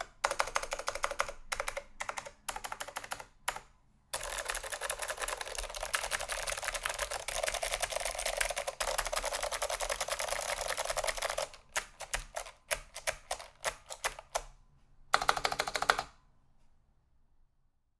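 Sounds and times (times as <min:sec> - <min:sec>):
clicky keyboard typing: 0:00.0 - 0:14.5, 0:15.2 - 0:16.1.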